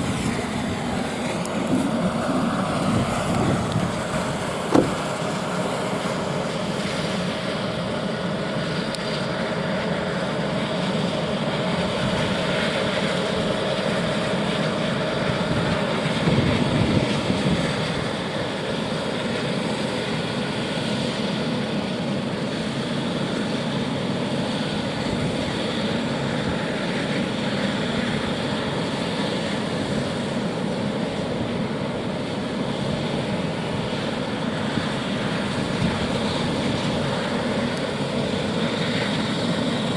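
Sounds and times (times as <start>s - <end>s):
steady whine: 0.0s - 18.1s, 23.0s - 39.9s
helicopter turbine engines and rotor: 0.0s - 39.9s.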